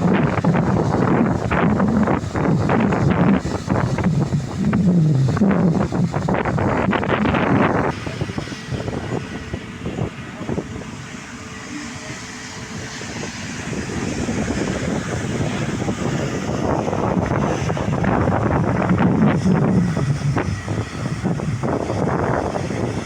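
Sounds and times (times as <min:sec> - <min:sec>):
jet engine rumble: 0:00.0 - 0:23.0
wind buffeting microphone: 0:00.0 - 0:23.0.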